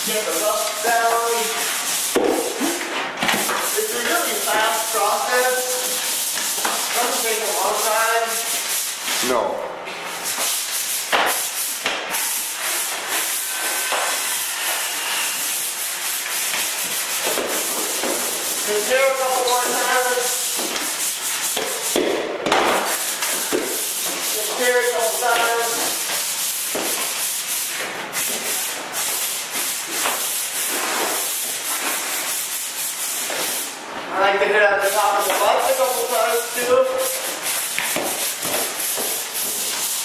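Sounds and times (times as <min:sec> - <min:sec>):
sandpaper scraping drywall: 0:00.0 - 0:33.8, 0:34.7 - 0:40.0.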